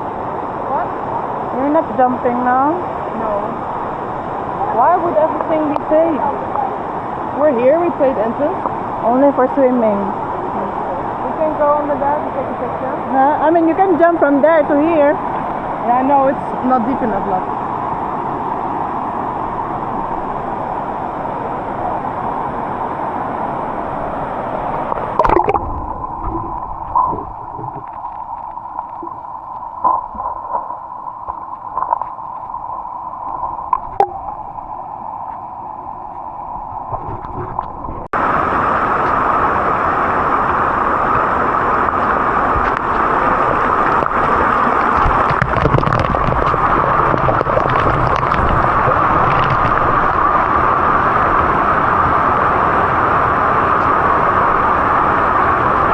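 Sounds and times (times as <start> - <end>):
waterfall rushing: 0.0 - 35.9, 38.2 - 55.9.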